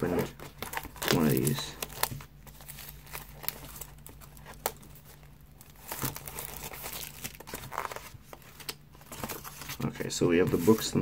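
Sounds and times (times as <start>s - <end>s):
plastic wrapping tearing and crinkling: 0.0s - 11.0s.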